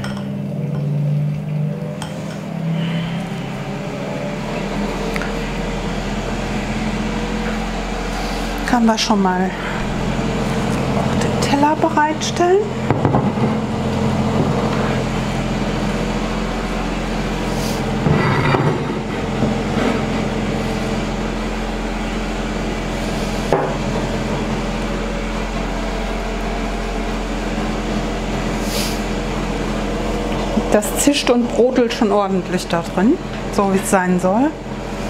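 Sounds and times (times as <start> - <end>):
cooker fan hum: 0.0 - 35.0.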